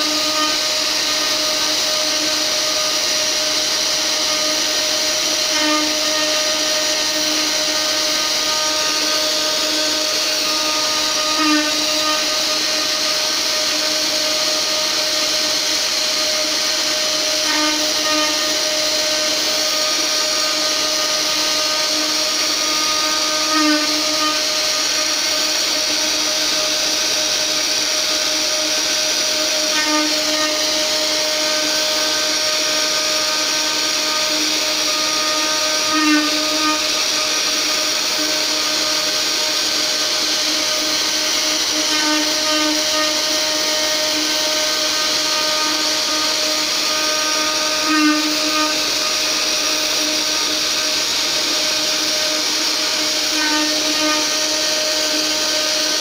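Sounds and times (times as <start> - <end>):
bit carving wood: 0.0 - 56.0
router spindle whine: 0.0 - 56.0.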